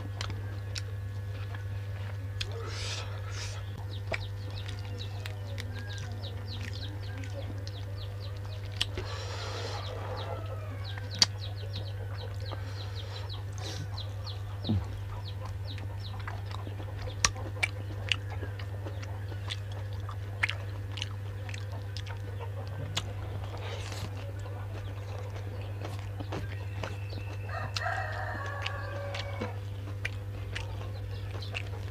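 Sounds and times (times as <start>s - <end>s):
chewing and crunching food: 0.0s - 31.9s
chickens clucking: 0.0s - 31.9s
steady low hum: 0.0s - 31.9s.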